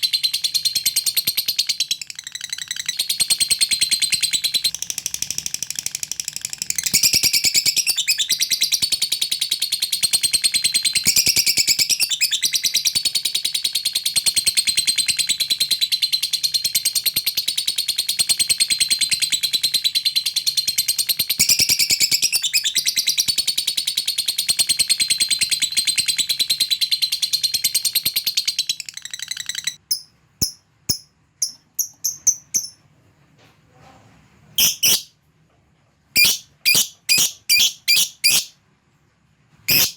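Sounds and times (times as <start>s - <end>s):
bird chirps: 0.0s - 32.8s, 34.6s - 35.1s, 36.2s - 38.6s, 39.7s - 39.9s
lovebird chattering trill: 0.0s - 32.8s, 34.6s - 35.1s, 36.2s - 38.5s, 39.7s - 39.9s.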